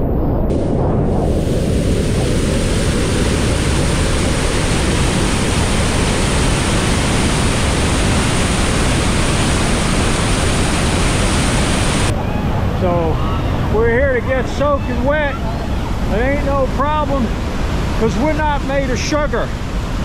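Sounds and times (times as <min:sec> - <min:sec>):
waterfall rushing: 0:01.2 - 0:20.0.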